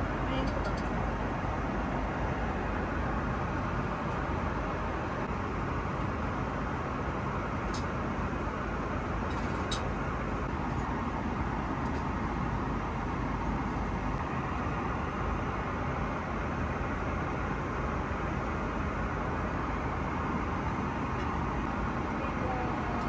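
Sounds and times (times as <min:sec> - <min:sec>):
airplane cabin noise: 0:00.0 - 0:23.0.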